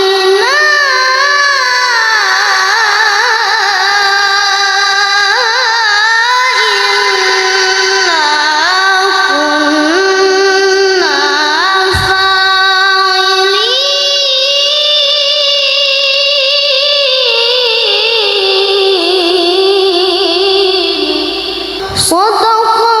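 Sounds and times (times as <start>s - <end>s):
child chanting recitation: 0.0s - 23.0s.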